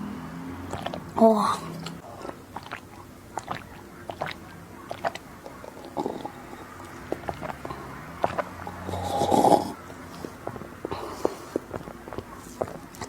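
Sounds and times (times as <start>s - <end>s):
chewing soft dessert: 0.2s - 13.0s
mouth clicks: 0.6s - 13.0s.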